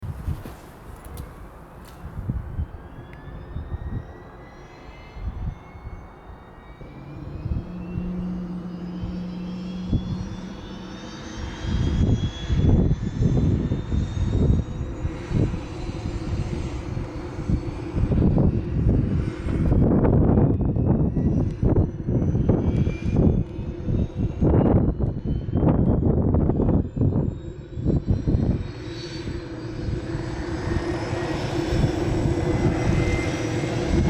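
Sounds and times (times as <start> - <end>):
turbine engine whine rising: 0.0 - 34.0
helicopter rotor beating: 0.1 - 34.0.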